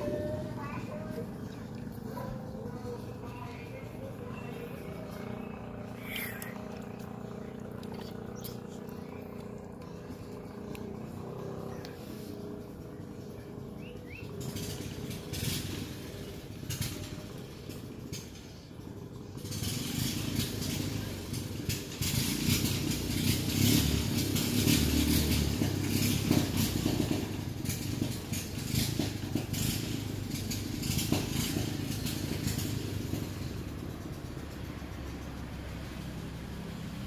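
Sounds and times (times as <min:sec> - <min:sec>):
engine low rumble: 0:00.0 - 0:37.0.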